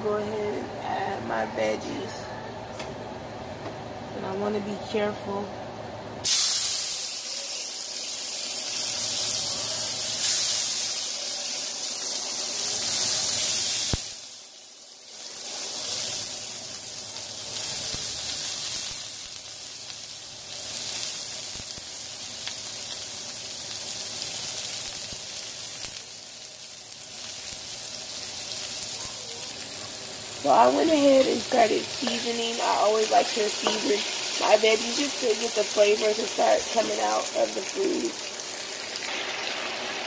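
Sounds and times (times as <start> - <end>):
vegetables sizzling in oil: 6.2 - 40.0.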